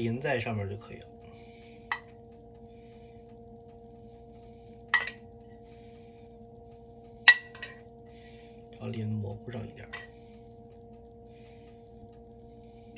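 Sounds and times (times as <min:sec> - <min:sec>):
low electrical hum: 0:00.0 - 0:12.9.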